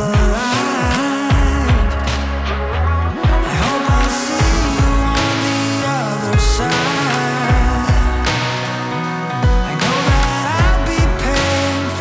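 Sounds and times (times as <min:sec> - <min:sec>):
music with sliding bass: 0:00.0 - 0:12.0.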